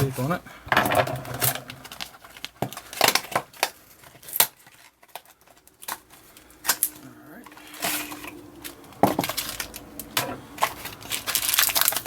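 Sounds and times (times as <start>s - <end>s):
packaging crinkling: 1.1s - 12.0s
tape tearing: 1.2s - 12.0s.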